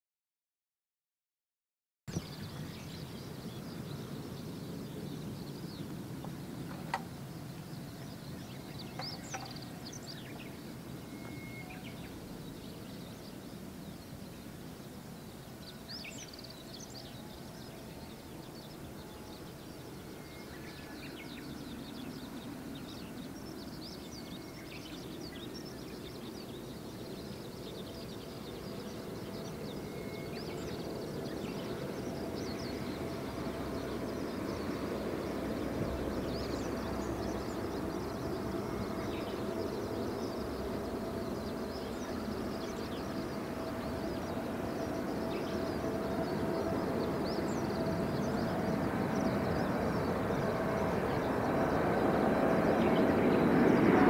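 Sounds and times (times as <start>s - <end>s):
distant jet engine rumble: 2.1s - 54.0s
small birds chirping: 2.1s - 54.0s.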